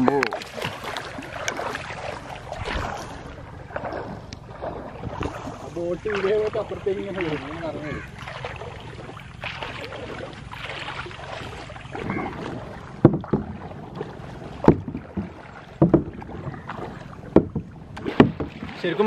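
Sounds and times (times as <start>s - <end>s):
paddle splashing in water: 0.0s - 19.0s
wind: 0.0s - 19.0s.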